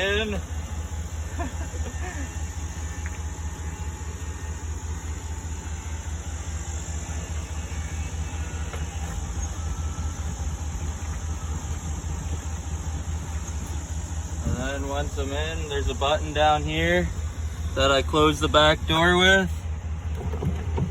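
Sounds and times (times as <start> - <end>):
vehicle engine idling: 0.0 - 20.9.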